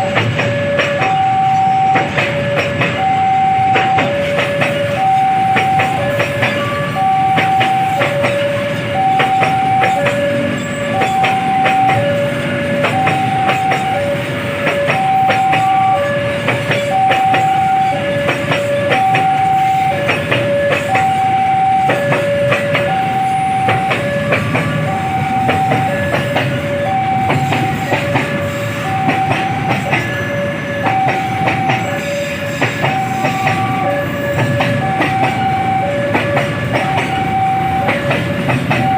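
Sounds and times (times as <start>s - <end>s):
train wheels clattering: 0.0s - 38.9s
two-tone level crossing alarm: 0.0s - 38.9s.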